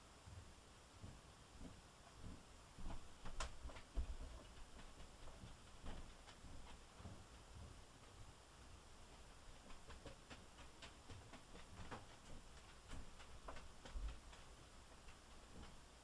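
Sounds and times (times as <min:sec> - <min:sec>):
faint small ticks and clicks: 0:00.2 - 0:16.0.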